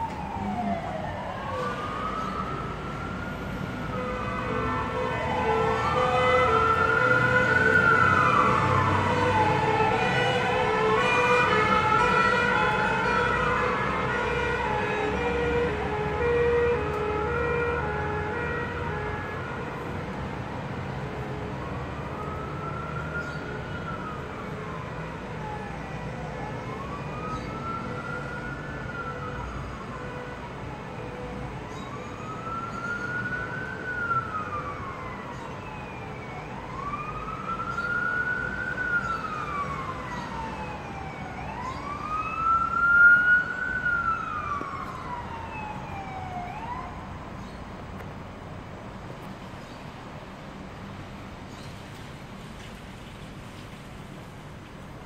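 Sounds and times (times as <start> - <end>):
fire engine siren wailing: 0.0 - 47.4.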